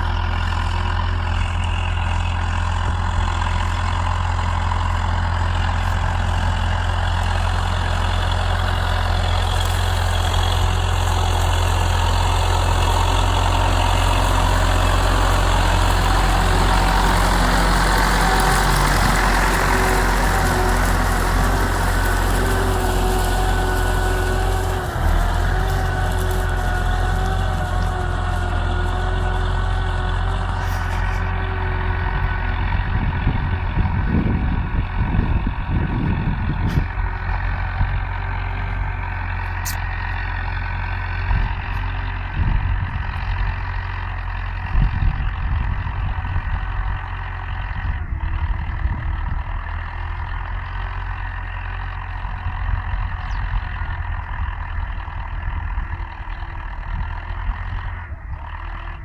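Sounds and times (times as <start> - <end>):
tractor diesel engine rumbling: 0.0 - 59.0.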